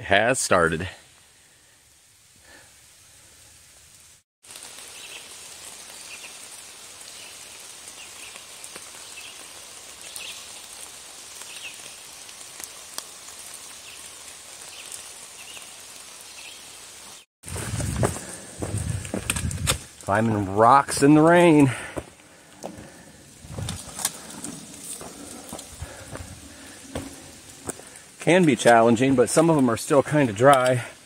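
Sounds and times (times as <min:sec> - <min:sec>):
rain falling through leaves: 0:00.0 - 0:31.0.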